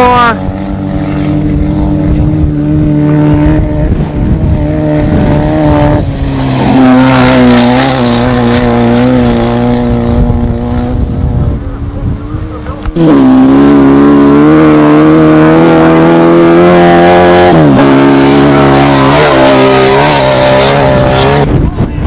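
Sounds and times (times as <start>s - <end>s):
off-road vehicle engines running: 0.0s - 22.0s.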